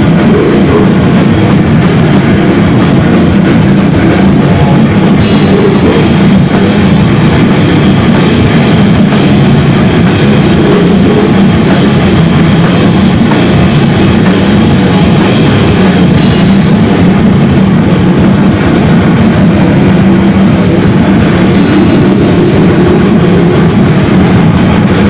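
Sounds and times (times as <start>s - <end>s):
bass guitar: 0.0s - 25.0s
distorted electric guitars: 0.0s - 25.0s
drum kit: 0.0s - 25.0s.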